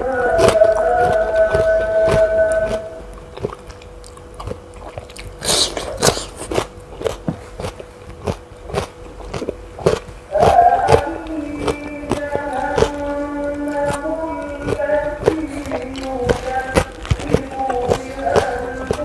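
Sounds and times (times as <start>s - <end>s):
chewing crisp raw fruit: 0.0s - 19.0s.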